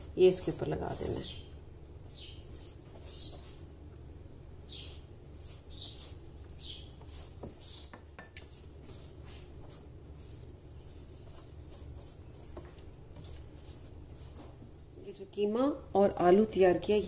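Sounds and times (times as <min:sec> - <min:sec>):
pastry brush rustling: 0:00.0 - 0:14.8
low steady hum: 0:00.0 - 0:17.0.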